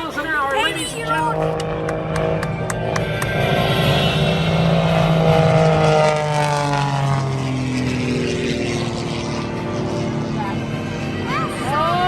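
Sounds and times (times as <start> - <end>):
jet engine whine passing: 0.0 - 12.0.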